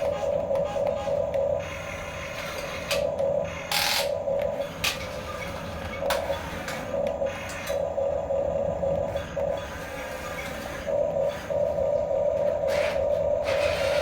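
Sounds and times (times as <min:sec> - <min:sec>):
small electric motors whining: 0:00.0 - 0:07.9, 0:09.1 - 0:14.0.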